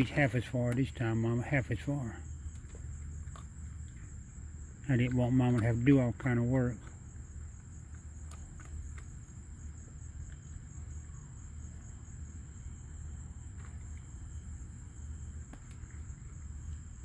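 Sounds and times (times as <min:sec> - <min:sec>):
crickets trilling: 0:00.0 - 0:17.0
low steady rumble: 0:00.0 - 0:17.0.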